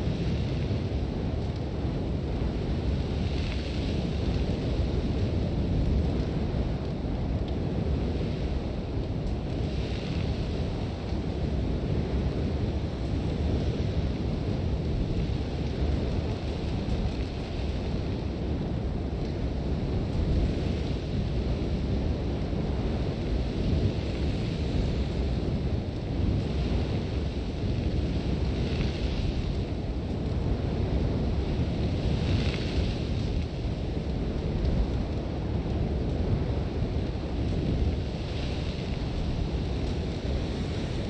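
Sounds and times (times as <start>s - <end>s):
wind blowing hard: 0.0s - 41.0s.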